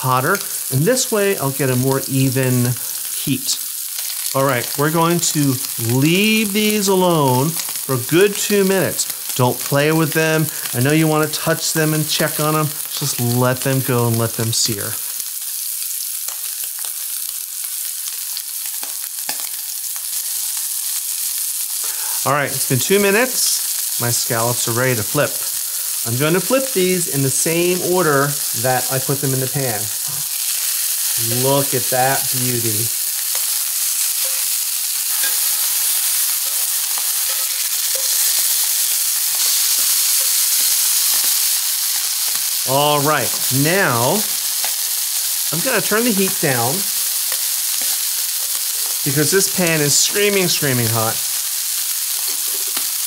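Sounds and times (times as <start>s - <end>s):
oil popping and crackling: 0.0s - 22.2s, 23.1s - 53.0s
scallops sizzling in oil: 0.0s - 53.0s.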